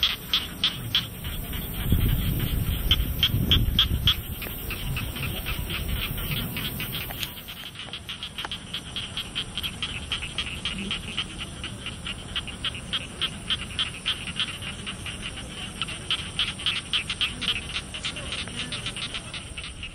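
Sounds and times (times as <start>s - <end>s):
high-pitched insect trill: 0.0s - 19.9s
rhythmic insect chirping: 0.0s - 19.9s.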